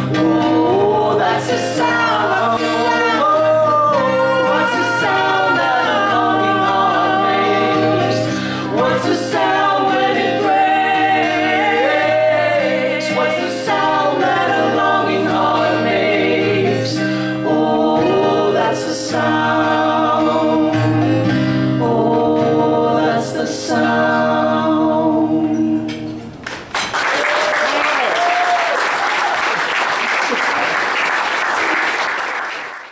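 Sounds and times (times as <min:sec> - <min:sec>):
people singing in harmony: 0:00.0 - 0:26.4
acoustic guitar: 0:00.0 - 0:26.9.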